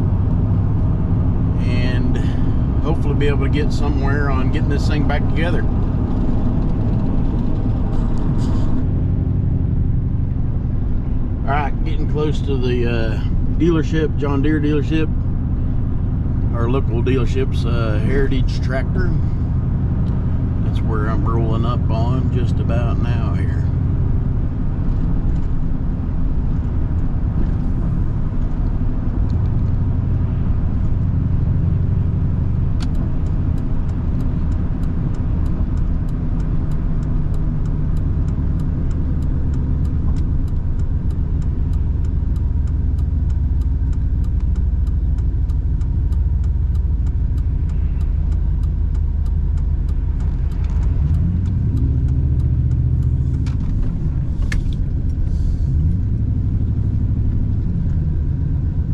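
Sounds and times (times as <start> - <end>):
truck engine and road rumble: 0.0 - 58.9
light regular ticking: 0.1 - 58.9.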